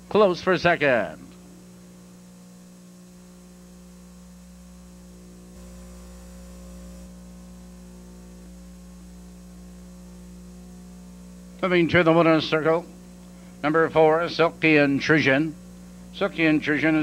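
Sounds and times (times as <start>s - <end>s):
electrical mains hum: 0.0s - 17.0s
faint hiss: 0.0s - 17.0s.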